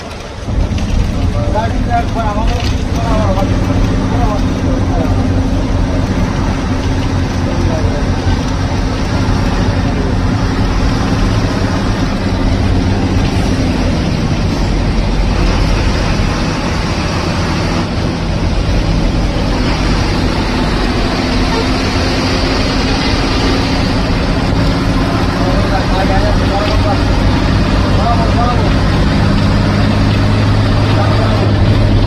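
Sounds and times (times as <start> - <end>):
bus engine running: 0.0 - 32.0
road and wind noise: 0.0 - 32.0.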